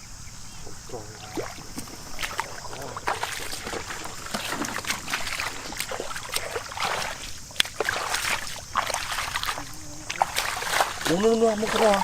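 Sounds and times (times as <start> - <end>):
floodwater sloshing and splashing: 0.8 - 12.0.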